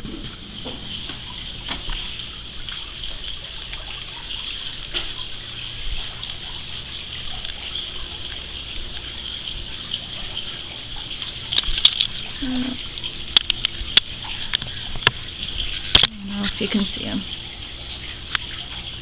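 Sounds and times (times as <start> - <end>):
trickling water: 0.0 - 19.0.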